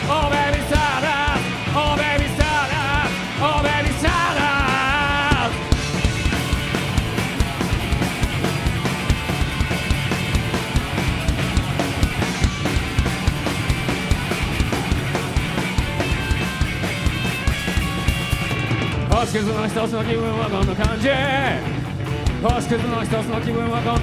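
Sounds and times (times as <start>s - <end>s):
drum kit hits: 0.0s - 19.5s
bass guitar: 0.0s - 24.0s
loud electric guitars: 0.0s - 24.0s.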